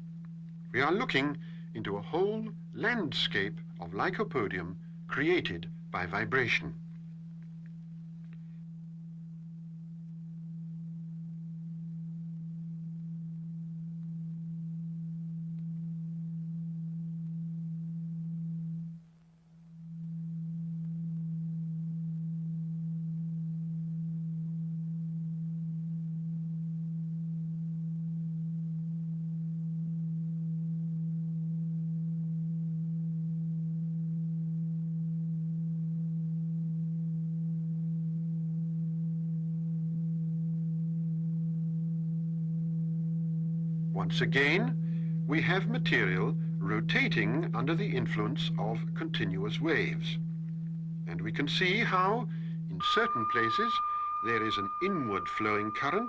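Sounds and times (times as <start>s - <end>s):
low pure tone: 0.0s - 56.0s.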